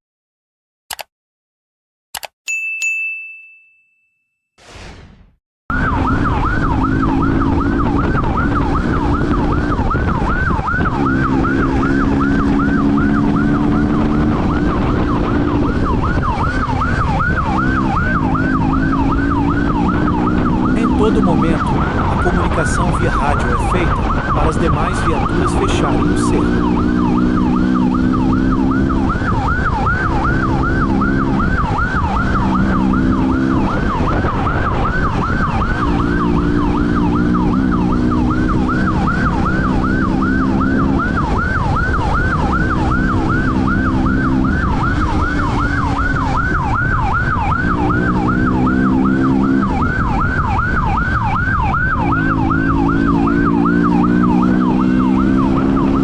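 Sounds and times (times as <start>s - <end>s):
police siren yelping: 5.7s - 56.0s
vehicle engine: 5.8s - 56.0s.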